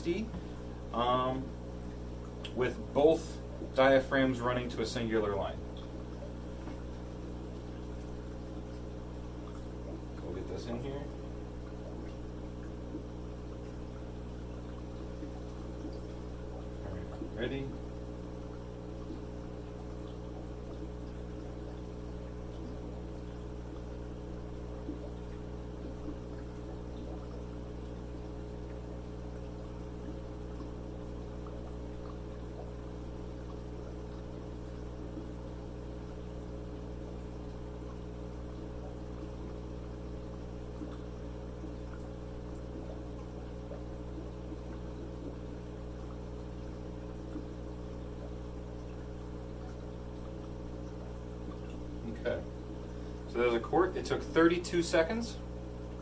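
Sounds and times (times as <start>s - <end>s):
air pump humming: 0.0s - 56.0s
air bubbling through water: 0.1s - 4.7s, 5.4s - 53.9s.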